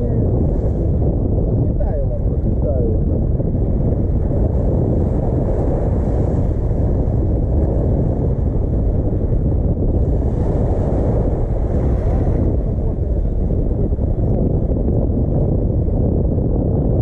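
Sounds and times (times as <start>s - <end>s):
loud wind on microphone: 0.0s - 17.0s.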